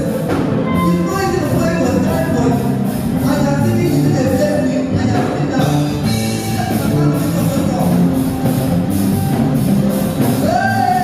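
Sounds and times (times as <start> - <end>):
live gospel band playing: 0.0 - 11.0.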